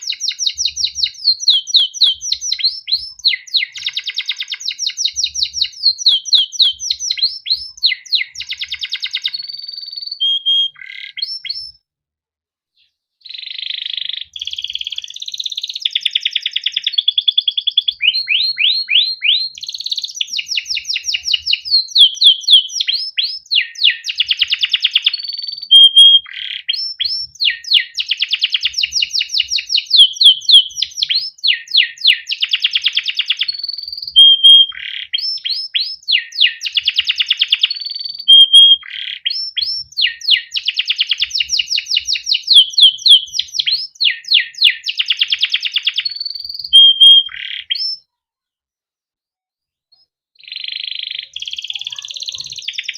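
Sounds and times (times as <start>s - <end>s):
canary singing trills: 0.0s - 11.8s, 12.8s - 48.1s, 49.9s - 52.9s.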